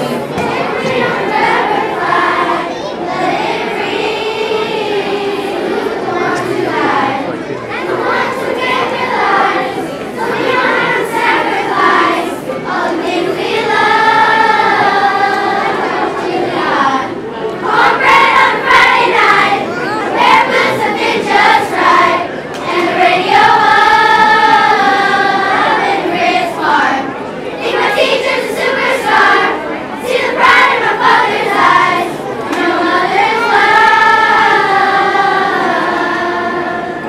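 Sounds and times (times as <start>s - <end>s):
children's choir singing: 0.0s - 37.0s.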